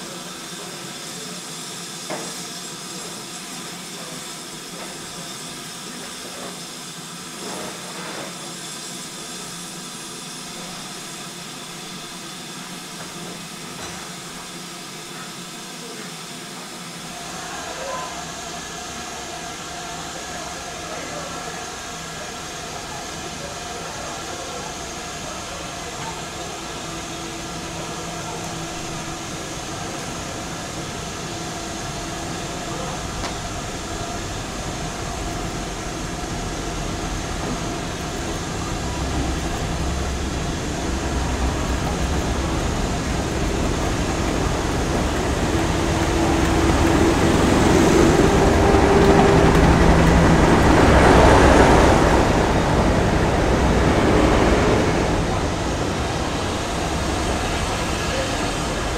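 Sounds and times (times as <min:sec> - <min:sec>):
diesel locomotive engine droning: 0:00.0 - 0:58.9.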